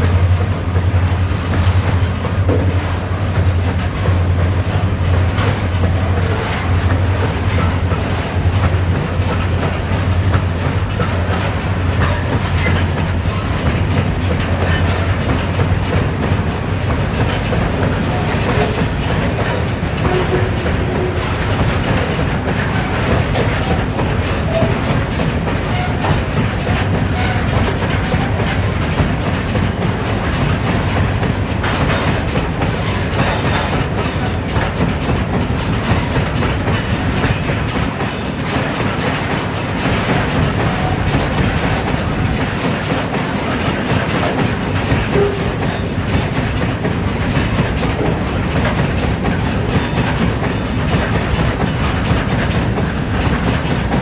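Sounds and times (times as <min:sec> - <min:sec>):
train wheels clattering over rail joints: 0:00.0 - 0:54.0.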